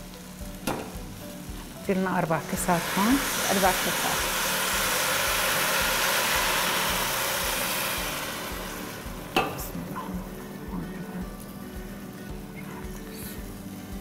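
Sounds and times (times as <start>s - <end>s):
boiling water hissing into pot: 0.0s - 14.0s.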